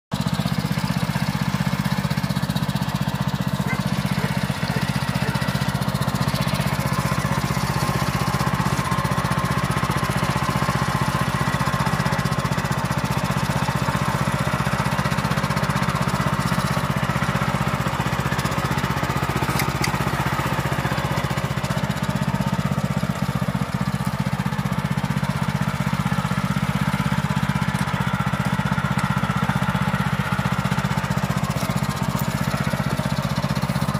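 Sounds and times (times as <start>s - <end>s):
small engine running steadily: 0.1s - 33.9s.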